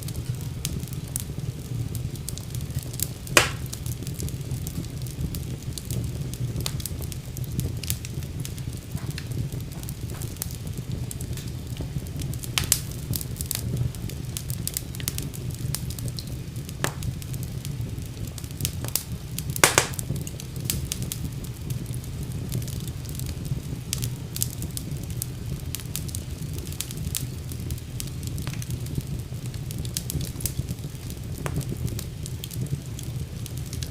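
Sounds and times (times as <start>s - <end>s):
flames rumbling in fireplace: 0.0s - 33.9s
wood fire crackling and popping: 0.0s - 33.9s.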